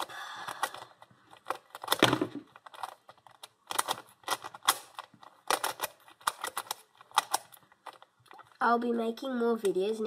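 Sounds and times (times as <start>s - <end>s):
plastic puzzle cube clicking: 0.0s - 8.6s.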